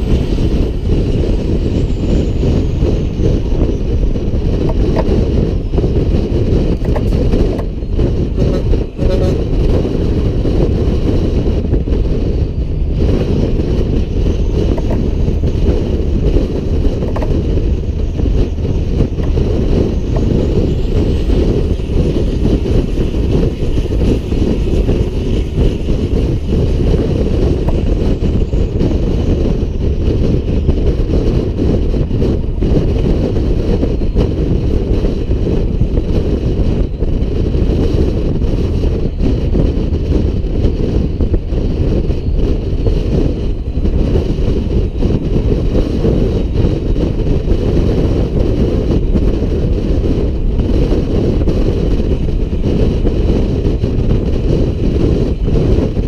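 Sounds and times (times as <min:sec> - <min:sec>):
truck engine and road noise: 0:00.0 - 0:56.0
wind noise: 0:00.0 - 0:56.0.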